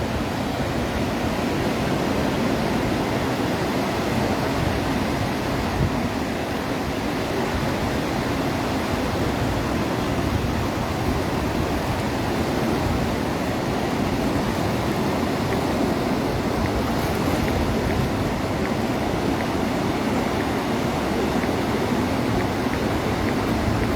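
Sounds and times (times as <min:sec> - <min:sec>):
surf breaking on a beach: 0:00.0 - 0:23.9.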